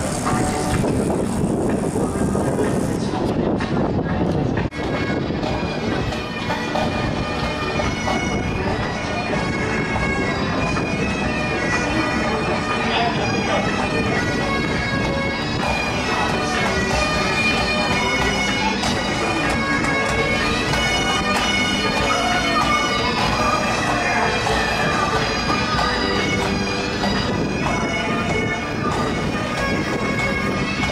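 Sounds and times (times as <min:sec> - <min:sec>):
bagpipe band playing: 0:00.0 - 0:02.7, 0:04.7 - 0:30.9.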